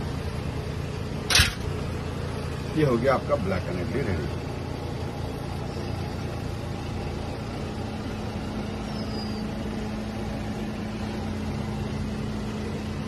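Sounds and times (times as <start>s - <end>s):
constant hum: 0.0s - 13.0s.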